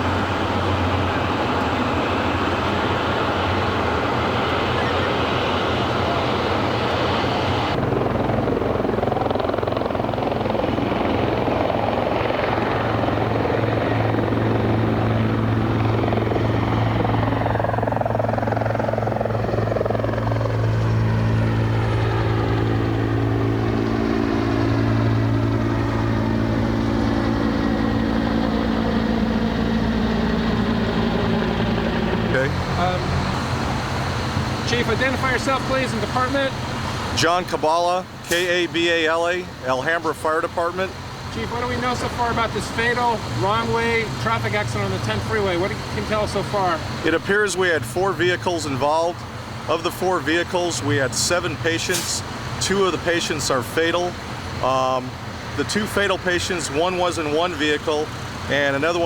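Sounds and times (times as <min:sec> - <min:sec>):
helicopter rotor and turbine: 0:00.0 - 0:59.0.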